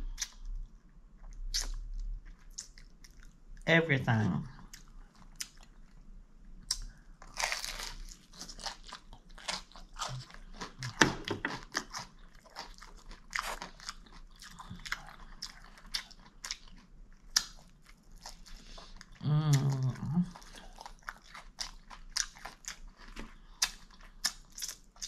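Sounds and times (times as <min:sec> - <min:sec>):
person chewing crunchy food: 0:00.0 - 0:03.4, 0:04.6 - 0:25.0.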